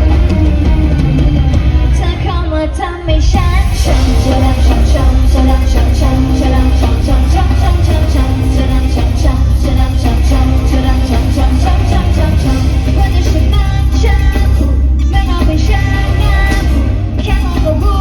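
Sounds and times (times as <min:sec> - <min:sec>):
amplified pop-rock music: 0:00.0 - 0:18.0
person singing: 0:00.0 - 0:18.0.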